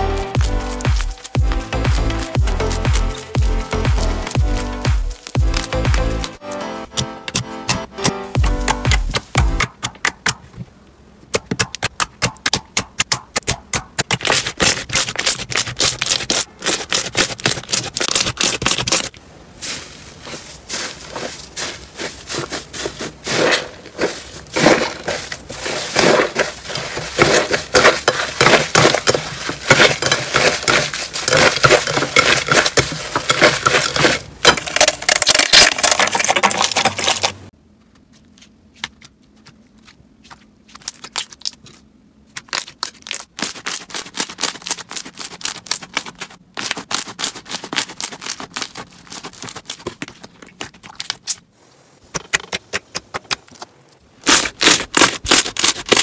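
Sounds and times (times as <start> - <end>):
crunchy slime crackling: 0.0 - 6.4, 13.5 - 37.5, 38.4 - 51.4, 54.2 - 56.0.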